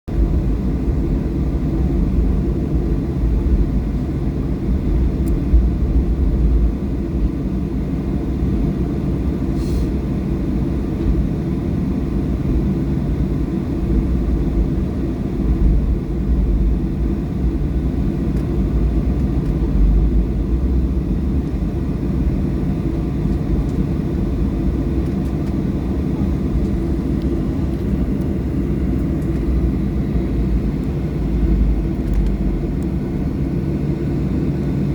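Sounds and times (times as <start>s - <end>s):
airplane cabin engine rumble: 0.1s - 34.9s.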